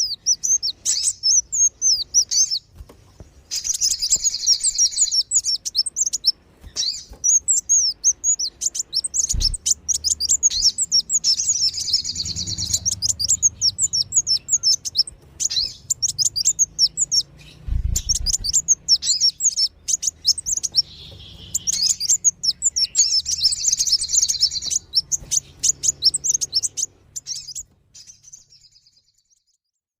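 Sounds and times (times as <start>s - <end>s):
rapid high-pitched bird chirps: 0.0s - 2.7s, 3.5s - 29.5s.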